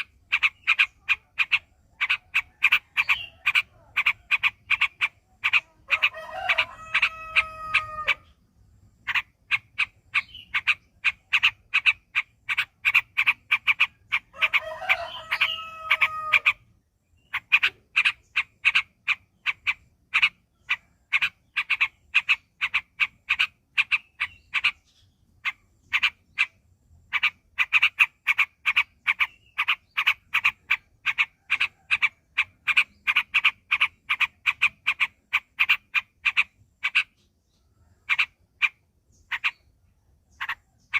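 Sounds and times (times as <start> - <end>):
drawn-out bird call: 0.0 - 8.4, 9.0 - 40.9.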